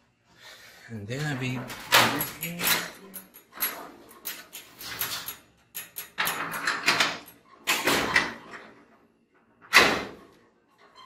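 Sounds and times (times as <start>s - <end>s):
garage door clatter: 1.1s - 11.0s
garage door scraping rattles: 1.2s - 11.0s.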